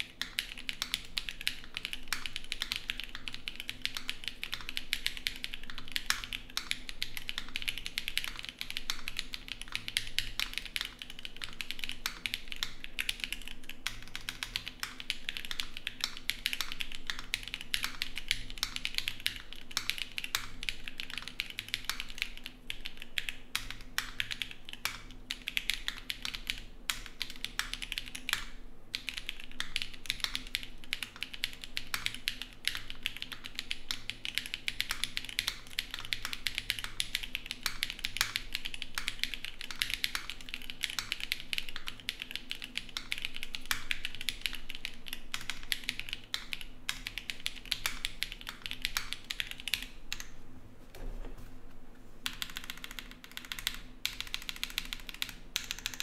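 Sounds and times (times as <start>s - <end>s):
mechanical keyboard typing: 0.0s - 50.4s, 52.2s - 56.0s.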